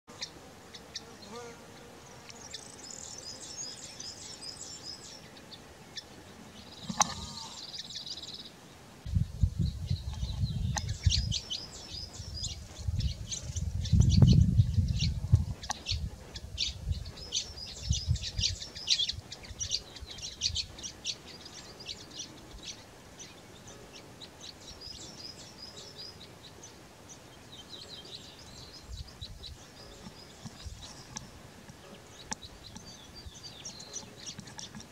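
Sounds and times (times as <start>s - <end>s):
sparrows chirping: 0.1s - 34.9s.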